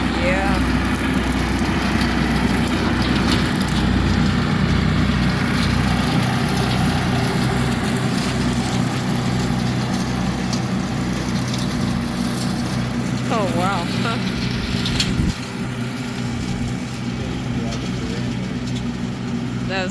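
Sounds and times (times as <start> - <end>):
rotary cutter mowing brush: 0.0 - 19.9
tractor engine running: 0.0 - 19.9.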